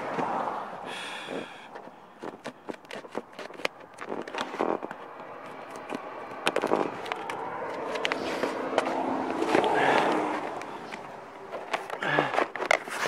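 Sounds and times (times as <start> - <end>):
snips cutting roofing sheet: 1.3 - 13.0
sheet rustling and scraping: 1.8 - 13.0.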